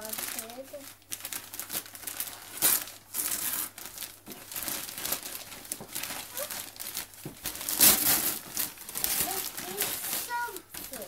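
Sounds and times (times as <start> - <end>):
wrapping paper tearing and crumpling: 0.0 - 11.0.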